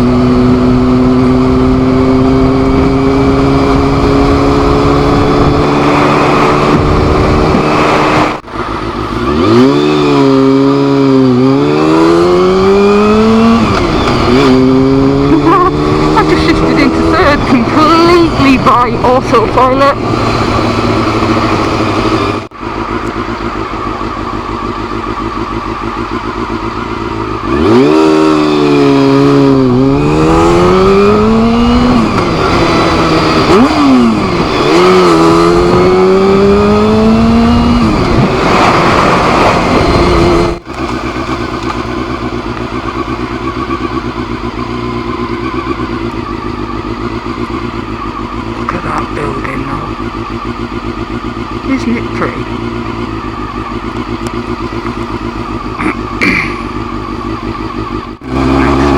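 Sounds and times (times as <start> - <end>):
motorcycle engine accelerating: 0.0 - 58.9.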